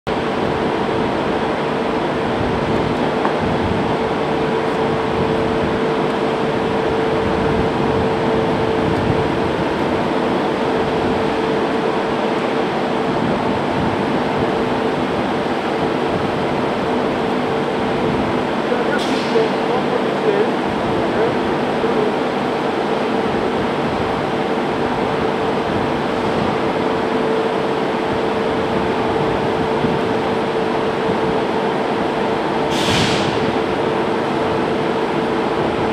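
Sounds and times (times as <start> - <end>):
machinery humming: 0.1 - 35.9.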